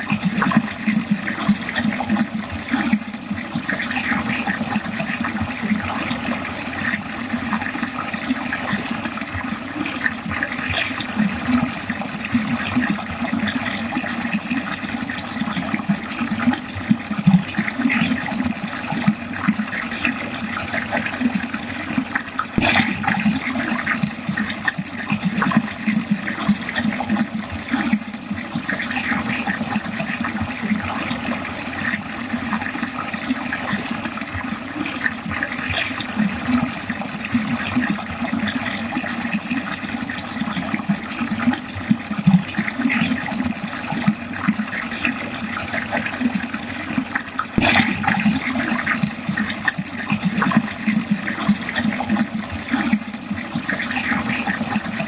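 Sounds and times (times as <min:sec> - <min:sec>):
water flowing down a drain: 0:00.0 - 0:55.0.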